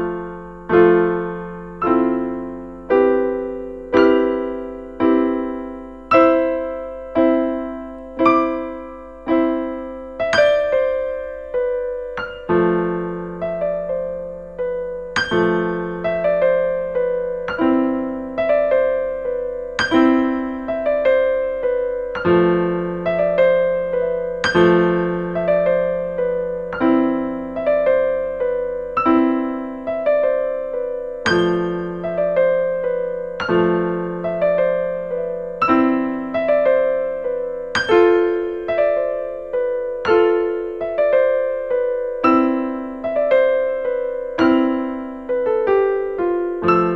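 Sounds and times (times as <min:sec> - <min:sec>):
gentle piano chords: 0:00.0 - 0:46.9.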